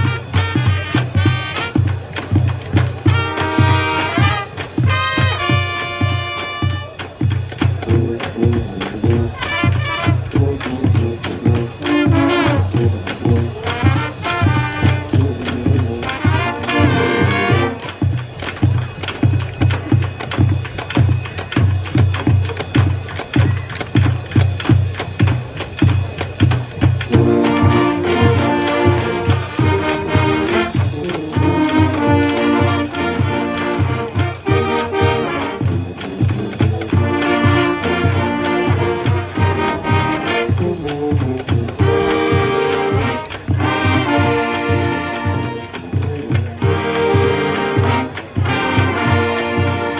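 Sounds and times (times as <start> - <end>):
marching band brass: 0.0 - 49.9
pounding drum beat: 0.0 - 49.9.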